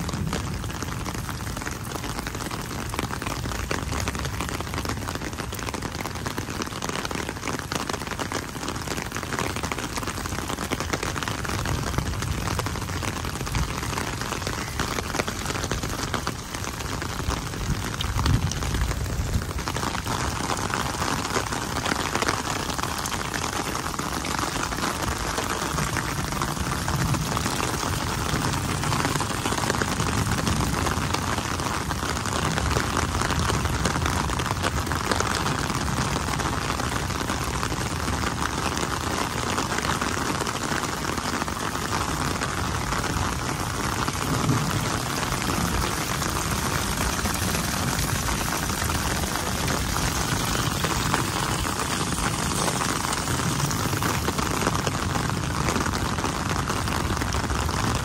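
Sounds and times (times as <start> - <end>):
heavy rain on wet pavement: 0.0 - 58.0.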